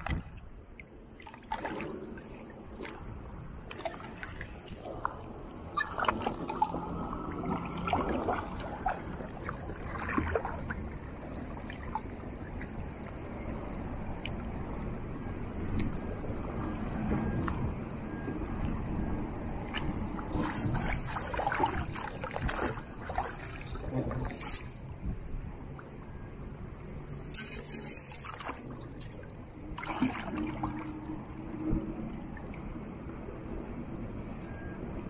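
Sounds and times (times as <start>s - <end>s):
water sloshing and splashing: 0.0s - 34.7s
low rumble of moving water: 0.0s - 35.0s.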